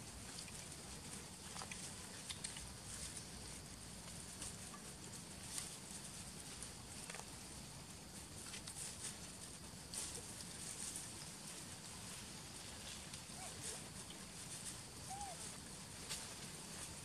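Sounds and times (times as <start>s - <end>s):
faint ticks and rustles: 0.0s - 17.0s.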